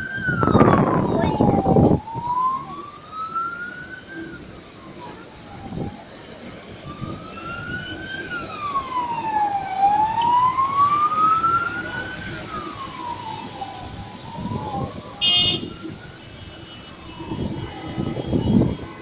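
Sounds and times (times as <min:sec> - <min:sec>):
emergency siren wailing: 0:00.0 - 0:19.0.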